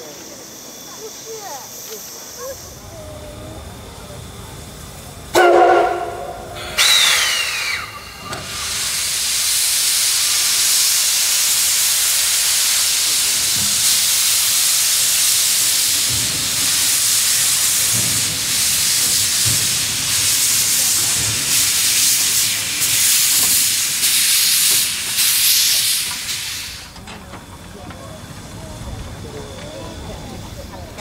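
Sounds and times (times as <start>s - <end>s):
steam locomotive venting steam: 0.0s - 31.0s.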